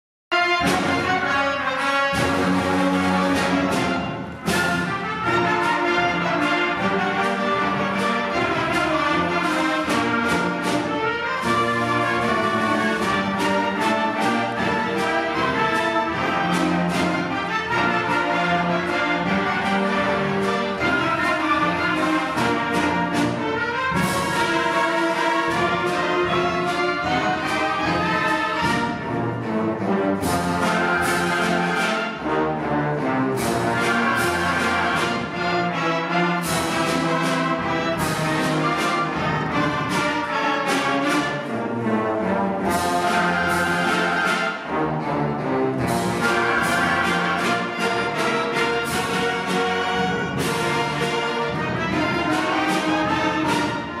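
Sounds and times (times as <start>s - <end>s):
concert band playing: 0.3s - 54.0s.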